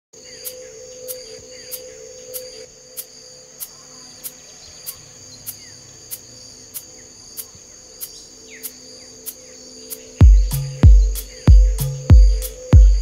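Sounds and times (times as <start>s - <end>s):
crickets chirring: 0.2s - 13.0s
faint chirps: 0.2s - 13.0s
soft rhythmic tick: 0.4s - 13.0s.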